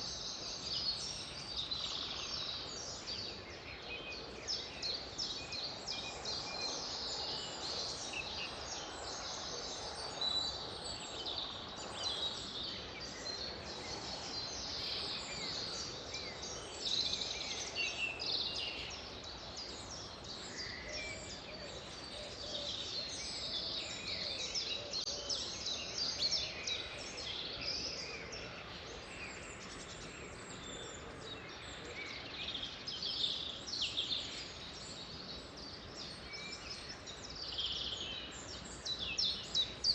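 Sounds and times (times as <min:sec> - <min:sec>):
steady low hiss: 0:00.0 - 0:39.9.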